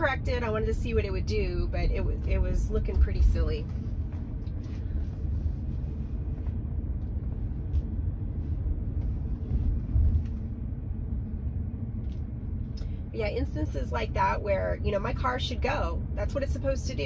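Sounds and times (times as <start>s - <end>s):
road rumble and tyre noise: 0.0s - 17.0s.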